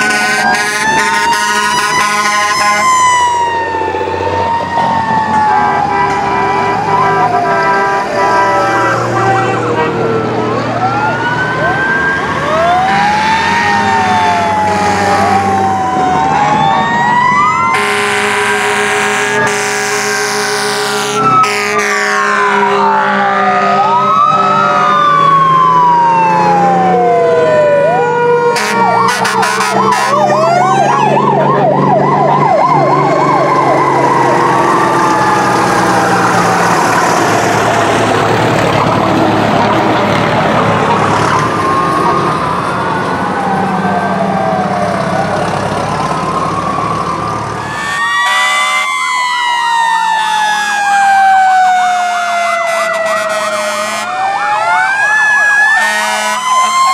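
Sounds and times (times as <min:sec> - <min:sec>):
fire truck sirens wailing: 0:00.0 - 0:56.9
truck engines humming: 0:00.0 - 0:56.9.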